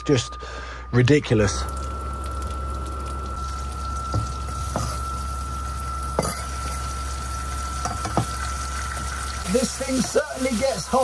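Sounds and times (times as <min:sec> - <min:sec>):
constant low hum: 0:00.0 - 0:10.9
thin high whine: 0:00.0 - 0:11.0
sausage sizzling in frying pan: 0:01.8 - 0:11.0.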